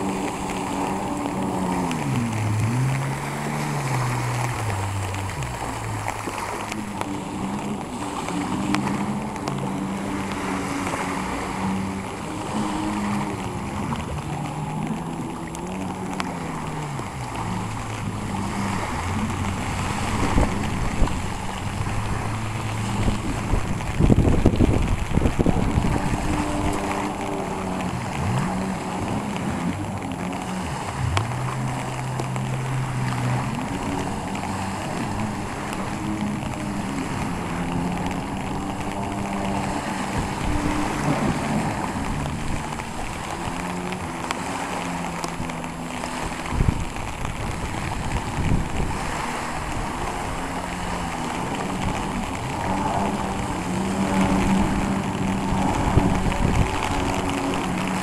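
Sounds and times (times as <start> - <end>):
jet ski engines: 0.0 - 58.0
wind and surf hiss: 0.0 - 58.0.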